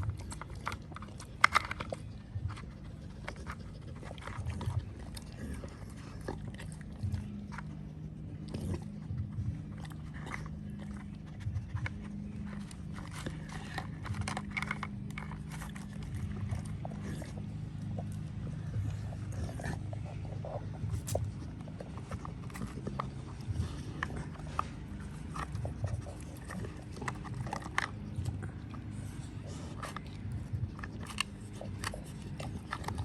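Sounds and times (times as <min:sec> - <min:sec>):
dog chewing: 0:00.0 - 0:33.0
steady low hum: 0:00.0 - 0:33.0.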